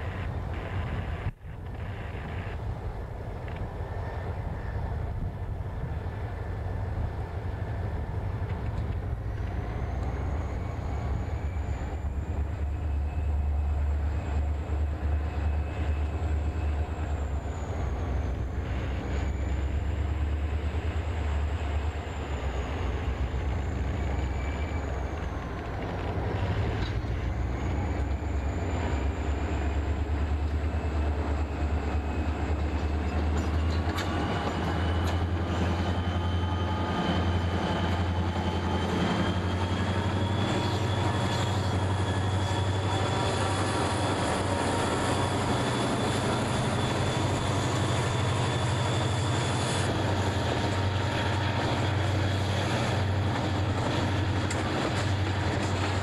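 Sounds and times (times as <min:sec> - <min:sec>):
diesel locomotive engines rumbling: 0:00.0 - 0:56.0.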